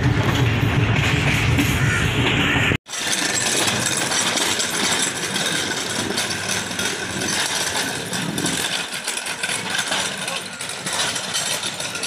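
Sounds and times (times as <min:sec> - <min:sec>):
passenger train running with rattling: 0:00.0 - 0:12.0.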